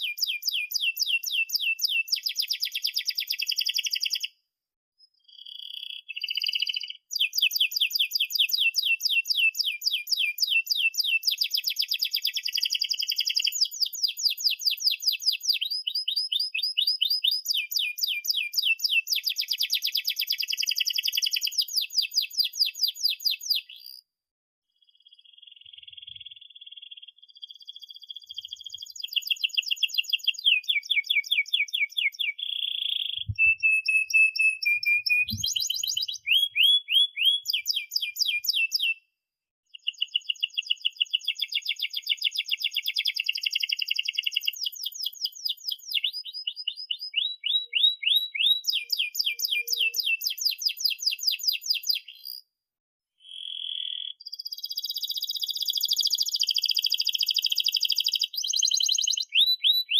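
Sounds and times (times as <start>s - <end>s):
canary singing trills: 5.0s - 24.0s, 24.8s - 39.0s, 39.7s - 52.4s, 53.2s - 59.9s.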